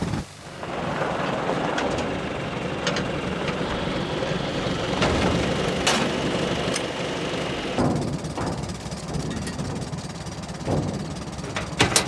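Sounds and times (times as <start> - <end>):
tractor engine running: 0.0 - 12.0
metal clanks and rattles: 1.3 - 12.0.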